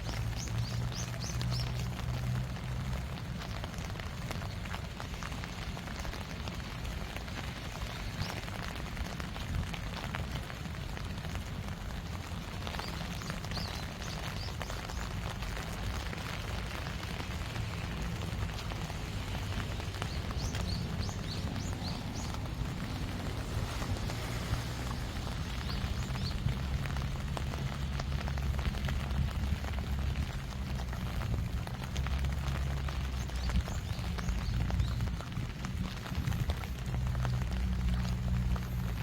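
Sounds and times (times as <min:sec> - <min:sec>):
rain drops pattering: 0:00.0 - 0:39.0.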